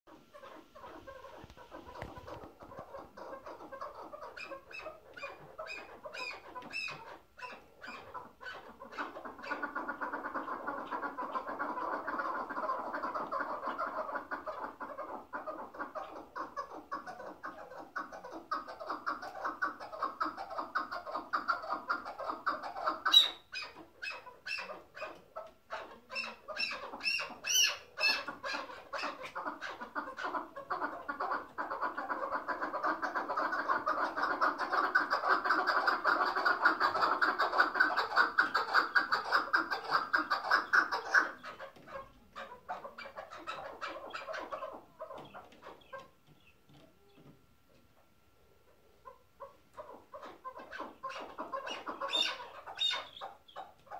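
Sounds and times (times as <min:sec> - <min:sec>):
partridge throaty cackling: 0:00.1 - 0:46.2, 0:49.0 - 0:53.9.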